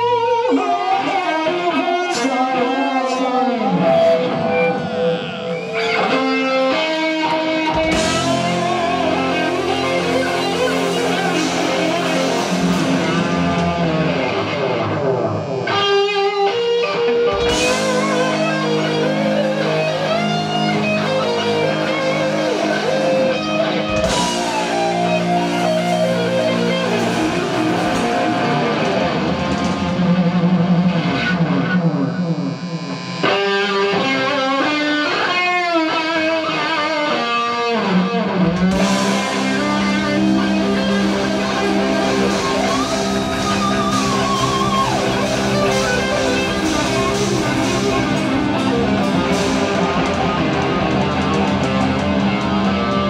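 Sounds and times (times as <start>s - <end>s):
bass guitar: 0.0s - 53.0s
drums: 0.0s - 53.0s
electric guitar lead lines: 0.0s - 53.0s.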